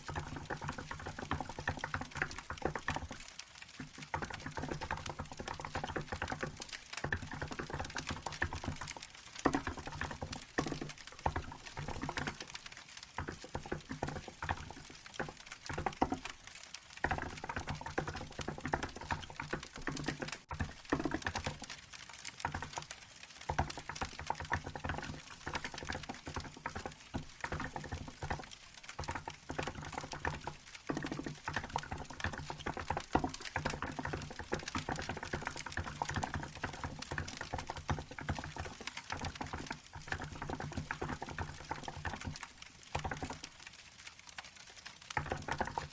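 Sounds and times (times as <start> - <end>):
crackling wood fire: 0.0 - 45.9.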